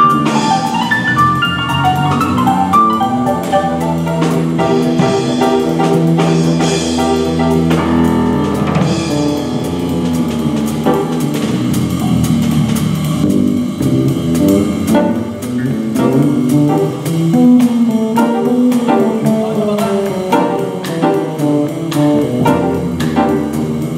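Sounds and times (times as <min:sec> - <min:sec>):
drum kit playing: 0:00.0 - 0:23.9
jazz piano: 0:00.0 - 0:23.9.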